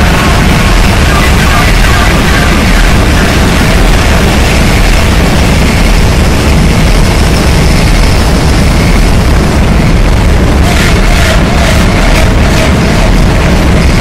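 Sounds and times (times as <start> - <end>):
dense distorted noise music: 0.0 - 14.0.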